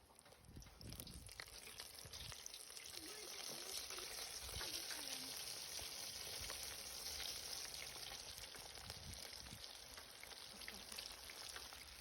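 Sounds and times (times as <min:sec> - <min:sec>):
chicken wings deep-frying in oil: 0:00.0 - 0:12.0.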